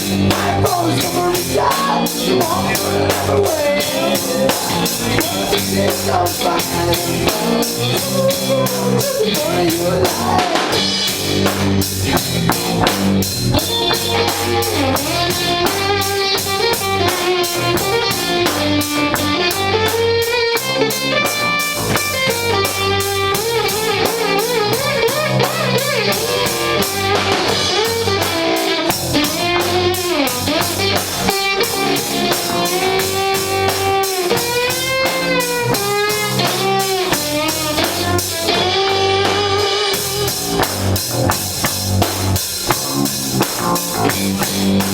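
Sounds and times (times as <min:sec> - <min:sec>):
bass guitar: 0:00.0 - 0:44.9
drum kit beat: 0:00.0 - 0:44.9
electric guitar with bending notes: 0:00.0 - 0:44.9.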